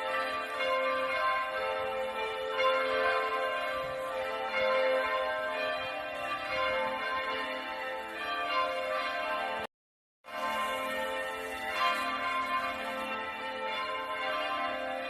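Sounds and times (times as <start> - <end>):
church bells ringing: 0.0 - 9.7, 10.3 - 15.0.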